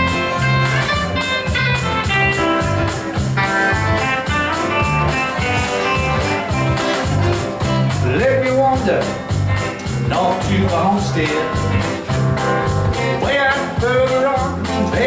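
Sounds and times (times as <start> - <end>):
bass notes: 0.0 - 15.0
guitar: 0.0 - 15.0
steady beat: 0.0 - 15.0.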